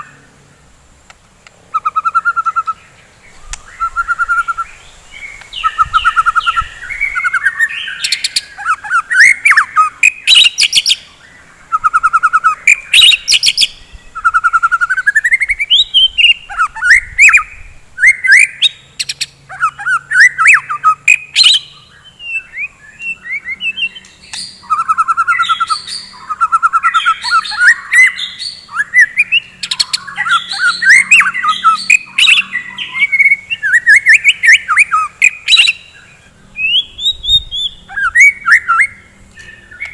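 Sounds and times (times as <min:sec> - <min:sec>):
bird singing trills and whistles: 0:01.7 - 0:39.9.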